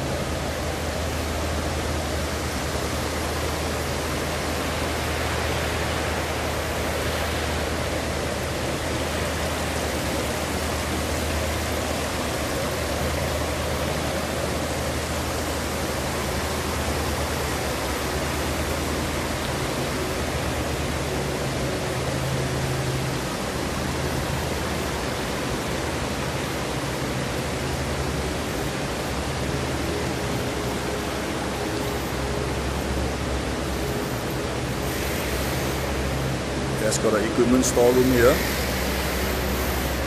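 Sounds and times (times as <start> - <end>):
even hiss: 0.0 - 40.0
low machine hum: 0.0 - 40.0.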